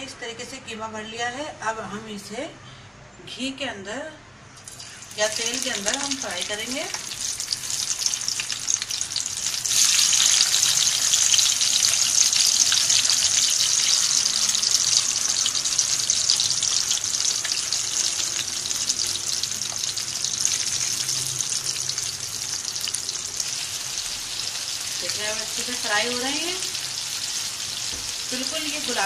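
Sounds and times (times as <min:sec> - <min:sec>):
food sizzling in hot oil: 0:04.6 - 0:29.0.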